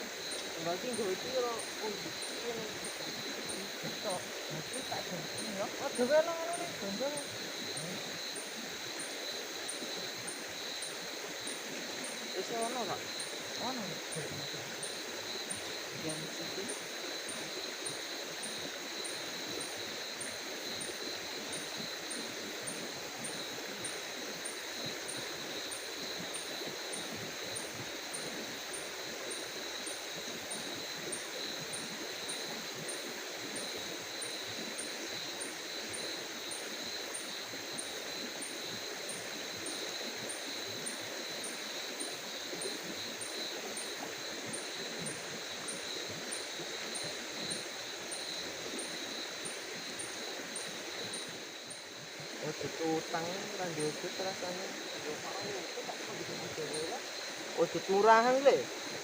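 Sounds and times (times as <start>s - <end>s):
faint insect chirping: 0.0s - 59.0s
insect high trill: 0.0s - 59.0s.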